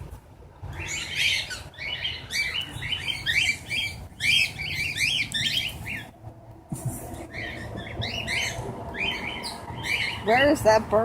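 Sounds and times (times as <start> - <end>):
small birds chirping and chattering: 0.6 - 6.2, 6.8 - 11.0.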